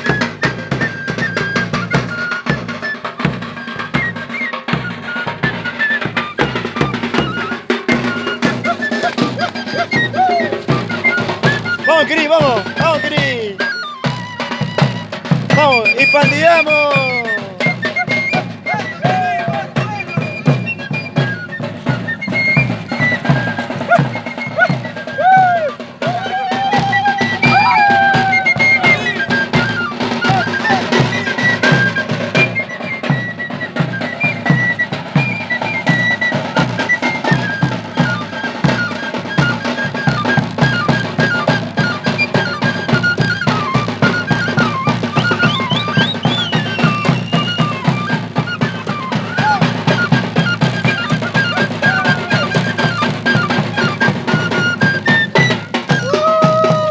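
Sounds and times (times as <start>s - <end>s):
steady drum beat: 0.0s - 33.2s, 36.3s - 56.9s
flute melody: 0.0s - 56.9s.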